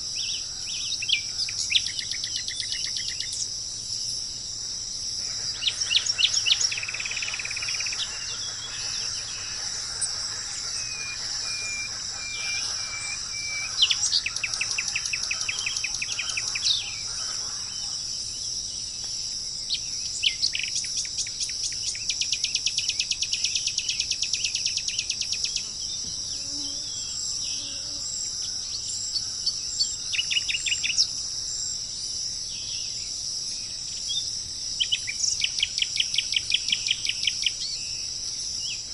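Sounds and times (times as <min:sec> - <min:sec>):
insects droning: 0:00.0 - 0:38.9
small birds singing: 0:00.0 - 0:38.9.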